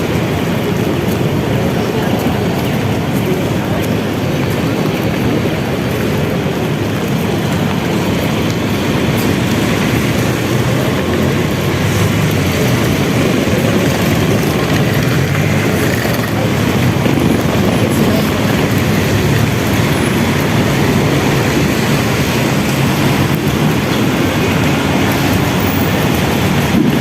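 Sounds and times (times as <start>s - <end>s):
moving vehicle rumble: 0.0s - 27.0s.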